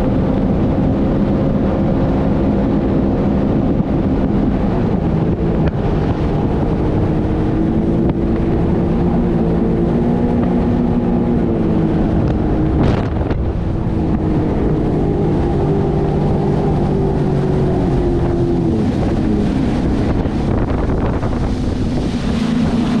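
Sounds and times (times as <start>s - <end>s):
watercraft engine running: 0.0s - 23.0s
wind buffeting microphone: 0.0s - 23.0s.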